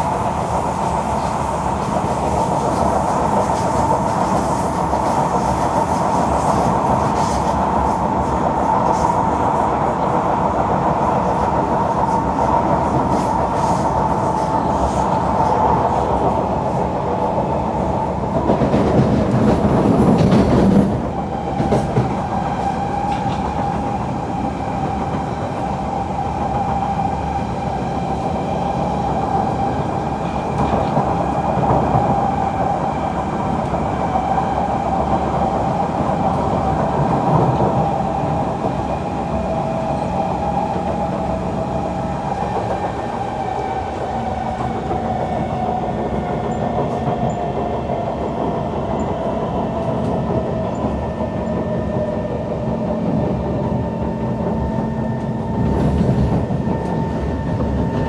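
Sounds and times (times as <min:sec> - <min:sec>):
metro wheels rumbling on track: 0:00.0 - 0:58.0
steady train whine: 0:00.0 - 0:58.0.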